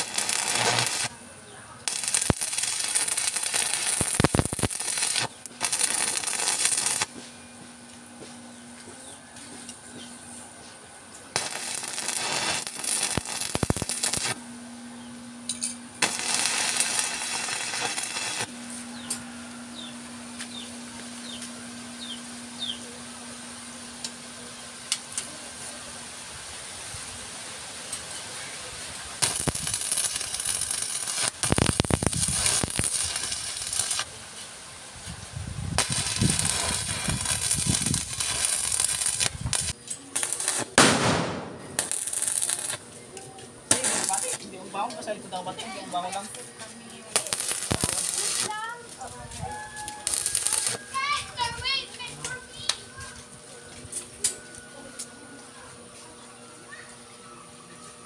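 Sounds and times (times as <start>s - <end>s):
arc welding crackling: 0.0s - 27.1s, 27.8s - 53.2s
steady low hum: 0.0s - 27.2s, 28.6s - 58.0s.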